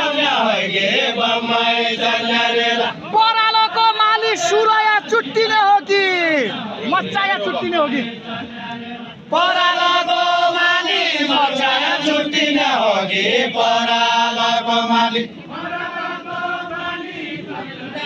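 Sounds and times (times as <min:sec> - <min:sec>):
voices singing folk song: 0:00.0 - 0:18.0.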